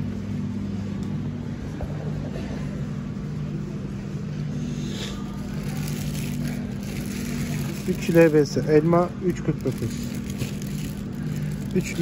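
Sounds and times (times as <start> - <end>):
machinery hum with level tones: 0.0 - 12.0.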